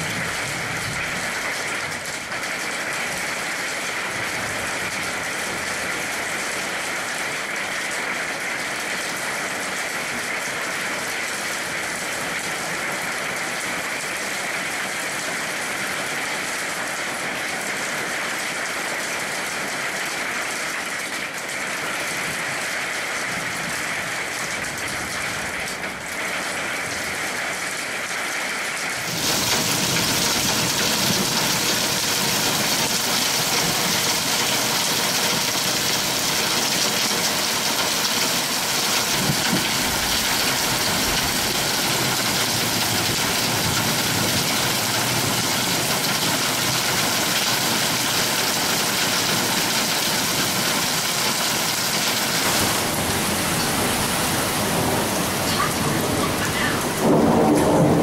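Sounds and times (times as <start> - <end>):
heavy rain pouring: 0.0 - 58.0
rain splashing into water: 0.0 - 58.0.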